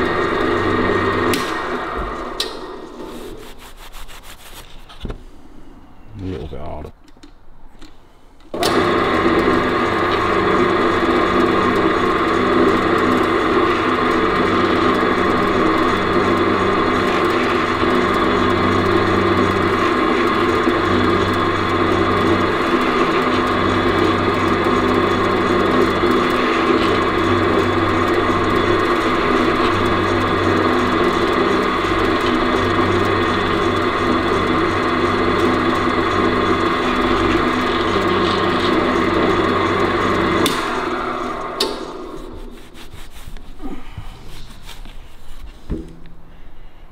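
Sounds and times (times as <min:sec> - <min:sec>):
pillar drill running: 0:00.0 - 0:03.9, 0:08.5 - 0:45.0.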